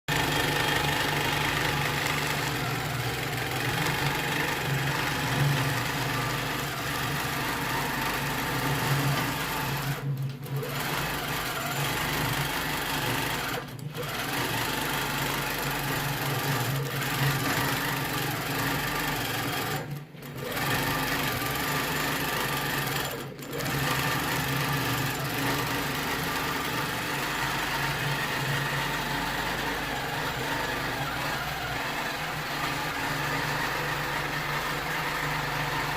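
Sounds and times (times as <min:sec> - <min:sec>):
electric sewing machine stitching: 0:00.1 - 0:35.9.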